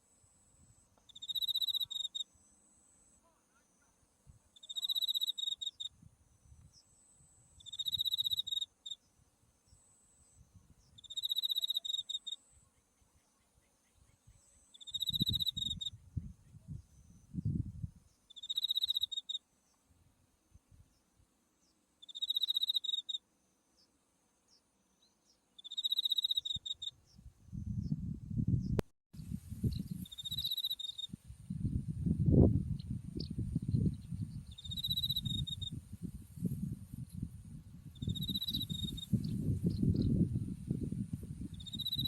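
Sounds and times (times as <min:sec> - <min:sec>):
high-pitched insect hum: 0:00.0 - 0:19.8, 0:22.0 - 0:23.9, 0:25.0 - 0:28.5, 0:29.2 - 0:42.0
cricket trilled chirp: 0:00.0 - 0:21.0, 0:21.6 - 0:28.0, 0:29.2 - 0:42.0.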